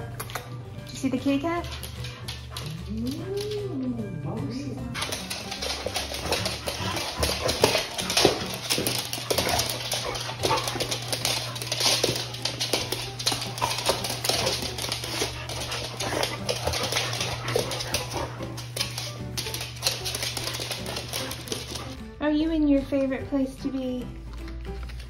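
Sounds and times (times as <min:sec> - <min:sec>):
dog claws clicking on floor: 0:00.0 - 0:03.8, 0:05.0 - 0:22.0, 0:23.6 - 0:25.0.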